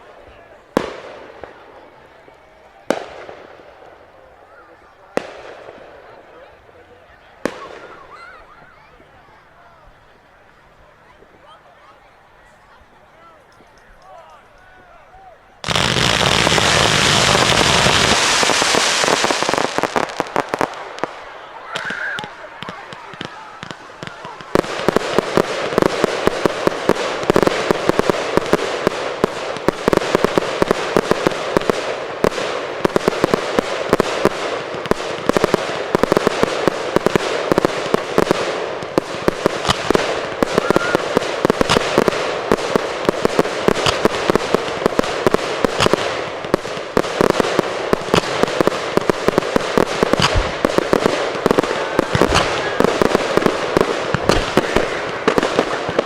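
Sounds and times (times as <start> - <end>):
firework bangs: 0.0 - 6.6, 7.3 - 11.6, 15.6 - 56.0
fireworks crackling: 0.0 - 56.0.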